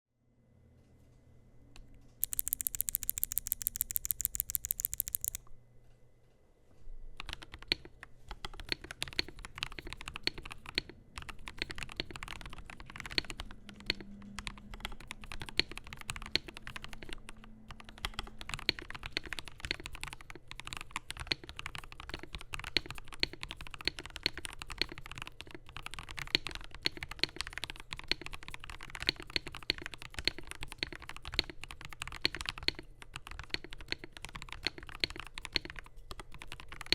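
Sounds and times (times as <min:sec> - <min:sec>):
typing on mechanical keyboard: 0:02.2 - 0:05.4, 0:07.2 - 0:36.9.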